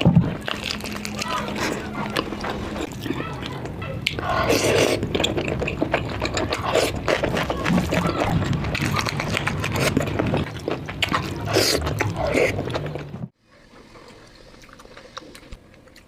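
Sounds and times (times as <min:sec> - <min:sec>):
wet eating sounds: 0:00.0 - 0:16.0.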